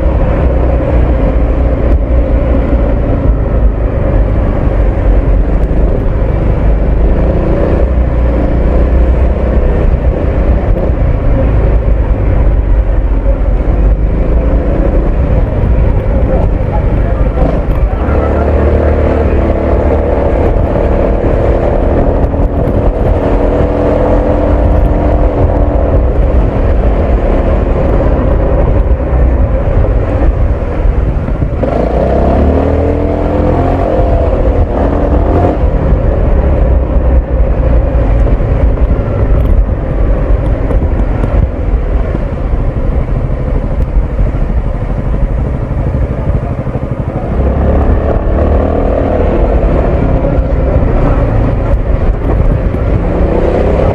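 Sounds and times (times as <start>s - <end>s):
scooter engine and exhaust: 0.0s - 53.9s.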